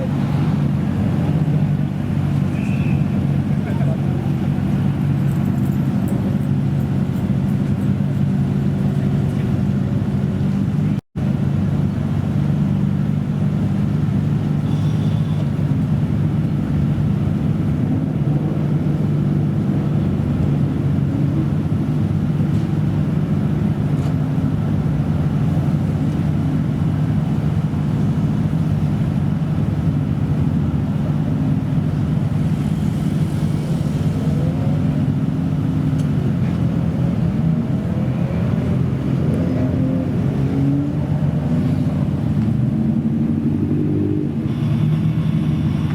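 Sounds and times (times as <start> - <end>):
car engine idling: 0.0 - 39.3.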